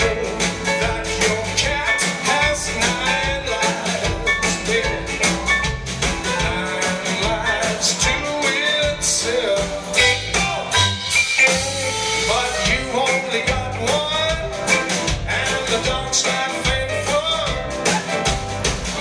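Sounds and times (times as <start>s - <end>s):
person singing: 0.0s - 5.6s, 6.2s - 11.0s, 12.1s - 19.0s
rock band playing: 0.0s - 19.0s.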